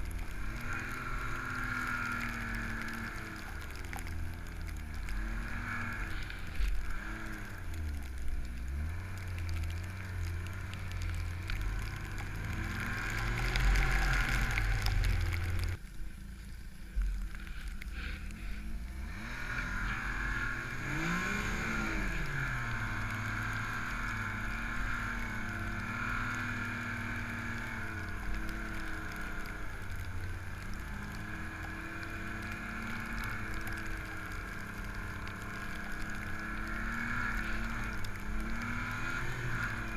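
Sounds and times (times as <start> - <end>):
snowmobile engine revving: 0.0 - 15.8, 18.0 - 39.9.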